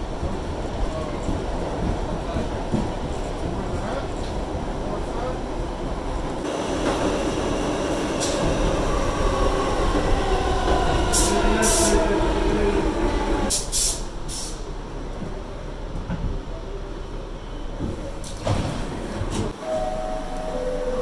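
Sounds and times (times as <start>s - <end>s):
rumble of train wheels: 0.0s - 21.0s.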